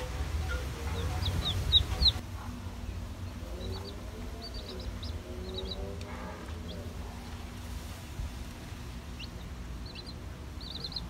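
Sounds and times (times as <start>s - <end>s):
chicks peeping: 0.0s - 7.7s, 8.3s - 11.0s.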